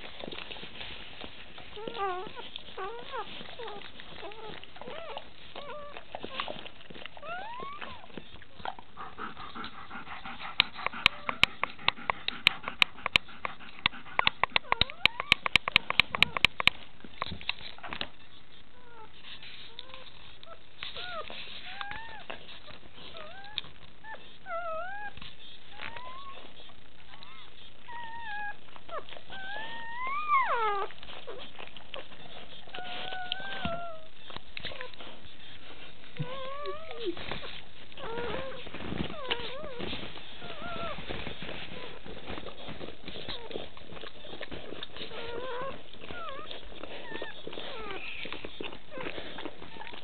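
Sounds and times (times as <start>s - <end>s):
faint clicks and rustles: 0.0s - 50.0s
puppy squeaking and whimpering: 1.7s - 50.0s.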